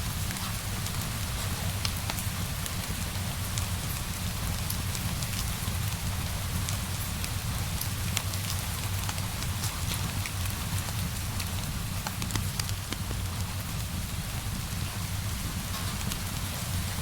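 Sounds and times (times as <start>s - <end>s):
steady rain hissing: 0.0s - 17.0s
wood fire crackling: 0.0s - 17.0s.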